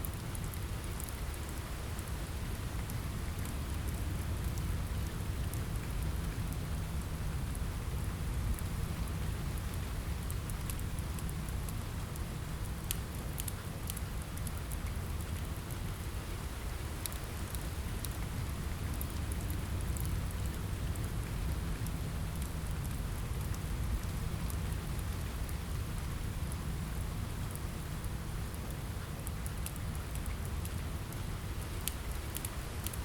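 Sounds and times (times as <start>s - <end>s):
fire crackling: 0.0s - 33.0s
rain on a window: 0.0s - 33.0s.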